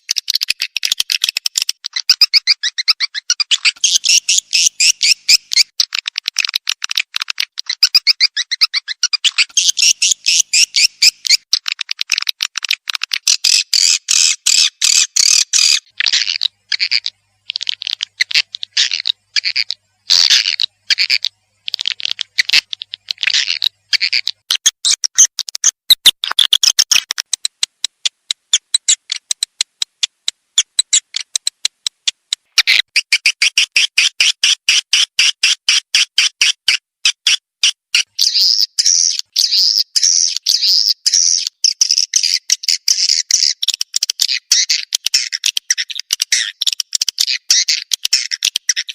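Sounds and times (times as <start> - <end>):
swiftlets buzzy chirps and clicks: 0.0 - 48.9.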